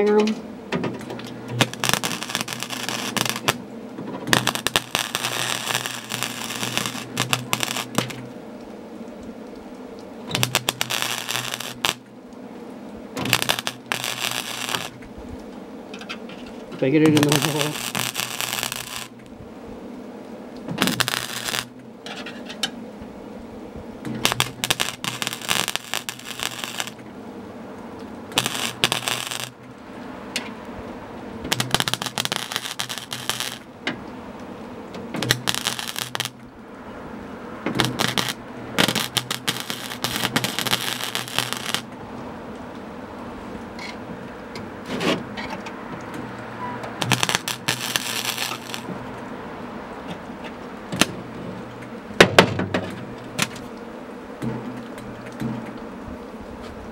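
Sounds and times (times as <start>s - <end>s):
welder crackling: 0.0s - 36.8s, 37.5s - 56.9s.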